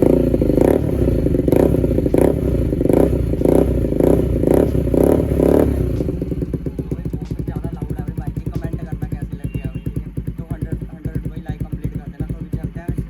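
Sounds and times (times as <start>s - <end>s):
motorcycle engine blipping: 0.0s - 13.0s
motorcycle engine pulsing idle: 0.0s - 13.0s.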